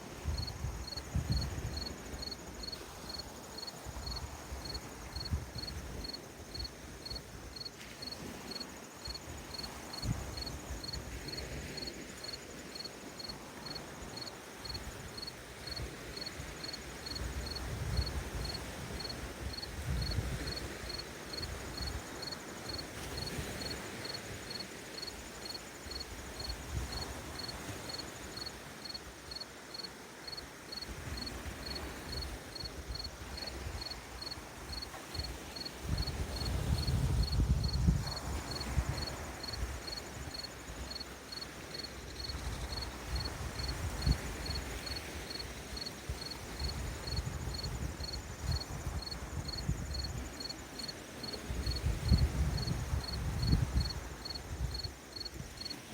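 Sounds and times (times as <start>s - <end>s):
lake waves washing: 0.0s - 55.9s
insect chirping: 0.2s - 55.9s.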